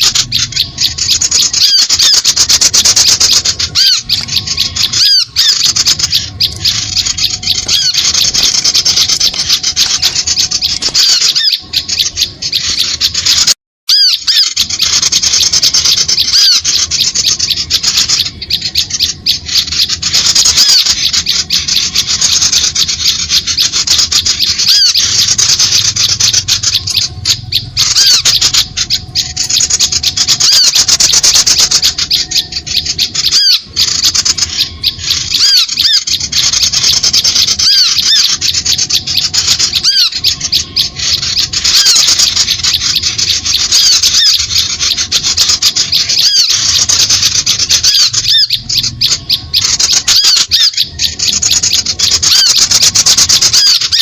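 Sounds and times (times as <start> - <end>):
small birds chattering: 0.0 - 54.0.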